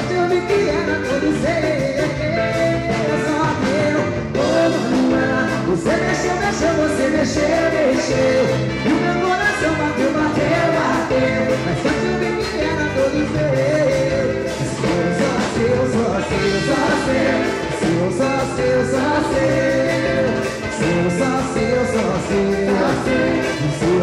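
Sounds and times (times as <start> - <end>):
bass guitar: 0.0 - 24.0
man singing: 0.0 - 24.0
percussion: 0.0 - 24.0
trumpet: 2.3 - 24.0.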